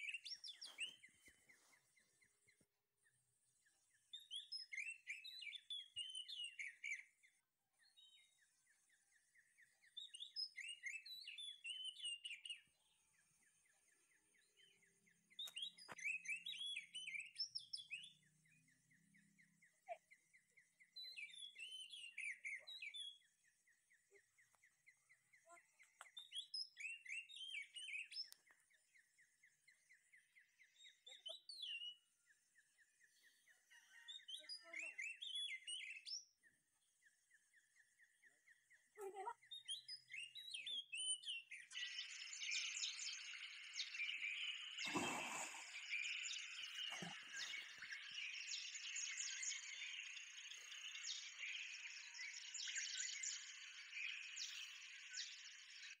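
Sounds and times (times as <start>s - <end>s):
songbird chirping: 0.0s - 56.0s.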